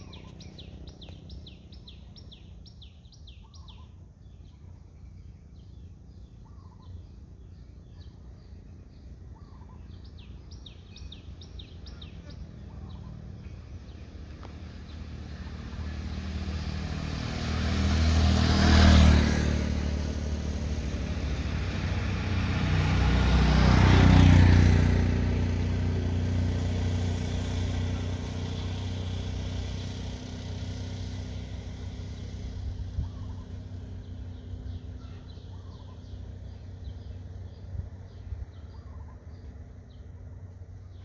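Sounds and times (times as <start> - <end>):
low engine hum: 0.0 - 41.0
vehicles passing: 0.0 - 41.0.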